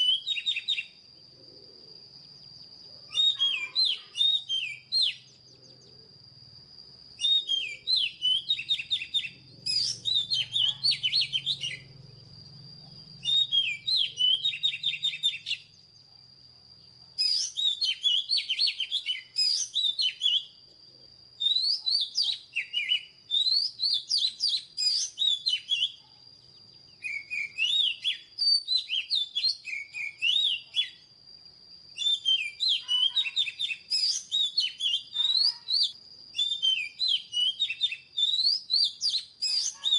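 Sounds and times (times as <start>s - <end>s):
bird singing whistled phrases: 0.0s - 1.0s, 2.3s - 5.8s, 7.2s - 12.0s, 13.1s - 15.8s, 17.2s - 20.6s, 21.4s - 26.1s, 26.9s - 31.1s, 31.9s - 39.9s.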